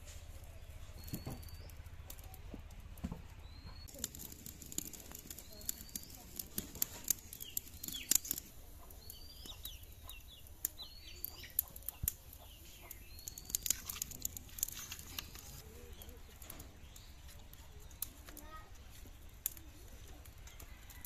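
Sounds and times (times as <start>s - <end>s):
birds chirping: 0.1s - 21.0s.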